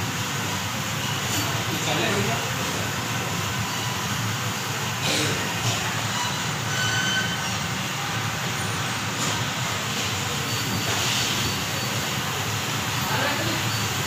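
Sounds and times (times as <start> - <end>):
sealing machine hum and hiss: 0.0 - 14.0.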